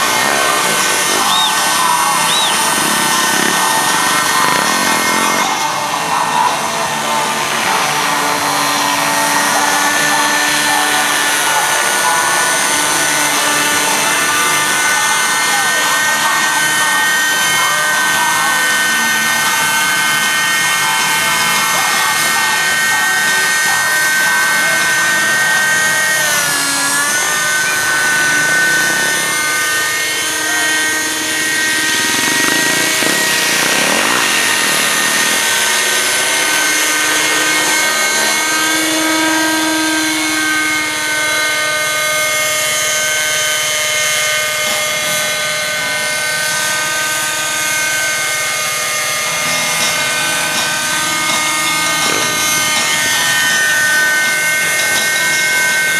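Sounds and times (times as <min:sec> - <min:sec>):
model helicopter high-pitched whine: 0:00.0 - 0:55.9.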